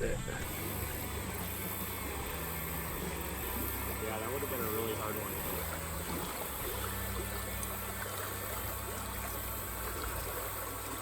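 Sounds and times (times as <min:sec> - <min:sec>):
low steady hum: 0:00.0 - 0:11.0
river water flowing: 0:00.0 - 0:11.0.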